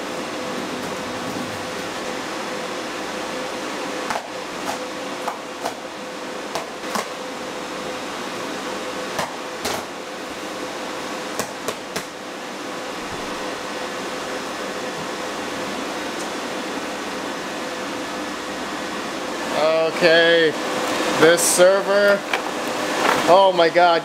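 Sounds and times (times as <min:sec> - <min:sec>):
steady fan hum: 0:00.0 - 0:24.0.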